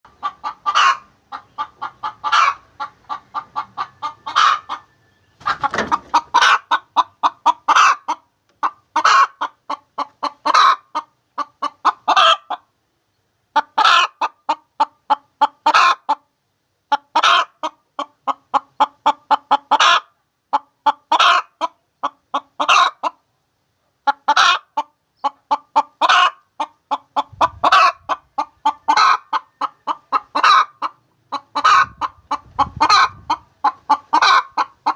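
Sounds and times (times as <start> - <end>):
hen cackling: 0.1 - 12.7, 13.6 - 16.2, 16.9 - 23.2, 24.1 - 34.9.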